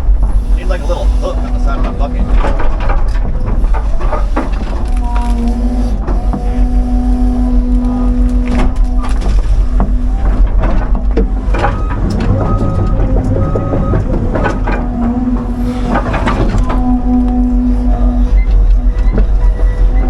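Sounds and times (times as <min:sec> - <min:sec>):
excavator diesel engine running: 0:00.0 - 0:20.0
hydraulic whine: 0:00.0 - 0:20.0.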